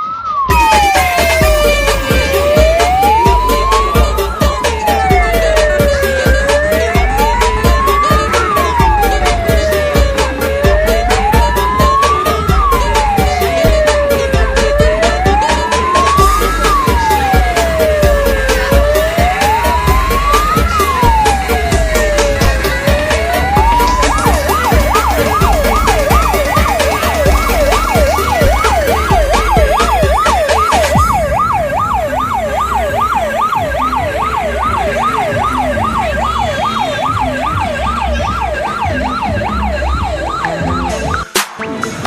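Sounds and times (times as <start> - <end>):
electronic siren wailing and yelping: 0.0 - 41.4
heavy bass beat: 0.5 - 42.0.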